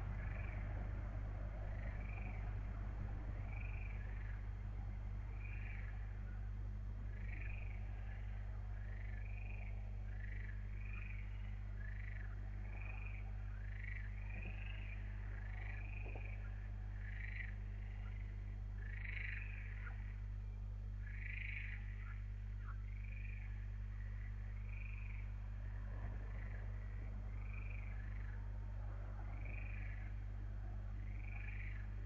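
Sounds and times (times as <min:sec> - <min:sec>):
low electrical hum: 0:00.0 - 0:32.0
chorus of arching animal calls: 0:03.4 - 0:20.2, 0:21.0 - 0:25.4, 0:26.0 - 0:32.0.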